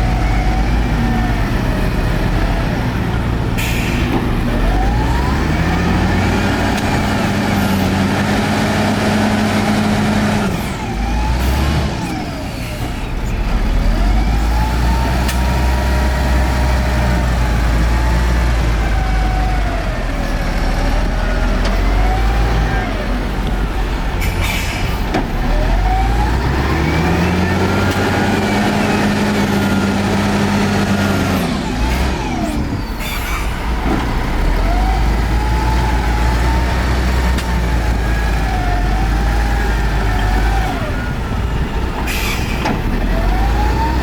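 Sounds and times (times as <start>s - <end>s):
diesel machinery engine: 0.0s - 44.0s.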